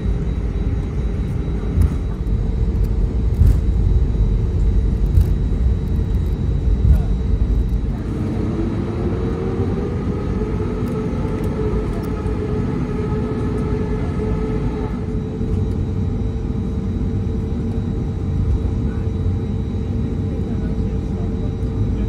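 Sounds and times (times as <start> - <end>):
jet engine rumble in cabin: 0.0 - 22.0
jet engine whine: 0.0 - 22.0.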